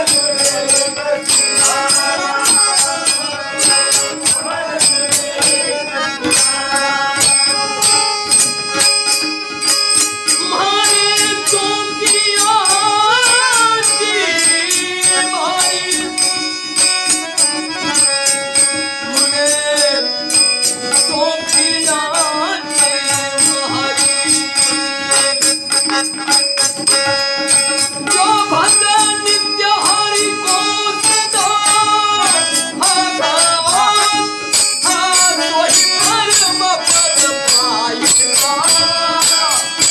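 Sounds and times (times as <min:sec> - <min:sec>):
held accompanying tones: 0:00.0 - 0:39.9
person singing devotional folk song: 0:00.0 - 0:39.9
rattling jingling percussion: 0:00.0 - 0:39.9.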